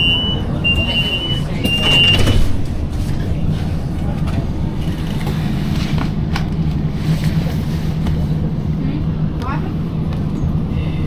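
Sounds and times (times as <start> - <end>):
streetcar rumble and hum: 0.0 - 11.0.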